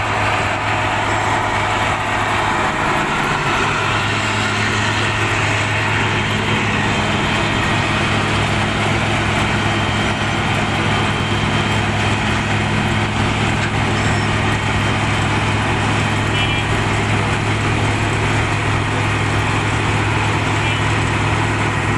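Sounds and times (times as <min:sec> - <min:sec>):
diesel engine hum: 0:00.0 - 0:21.9.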